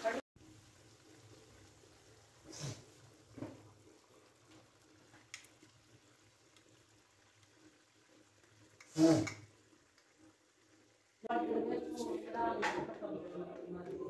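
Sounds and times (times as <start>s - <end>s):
sizzling and bubbling pan: 0.0s - 14.0s.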